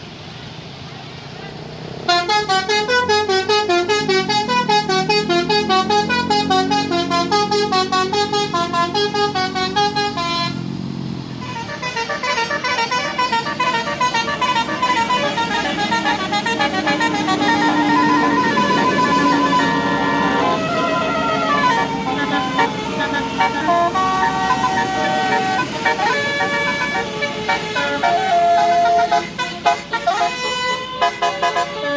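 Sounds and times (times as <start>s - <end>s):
bus horn playing melody: 2.1s - 10.8s, 11.4s - 31.9s.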